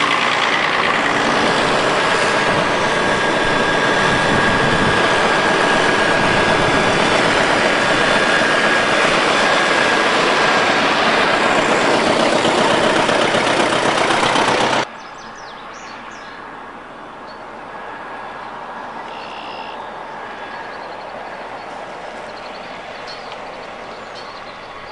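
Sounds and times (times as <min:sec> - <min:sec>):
tractor engines running: 0:00.0 - 0:24.9.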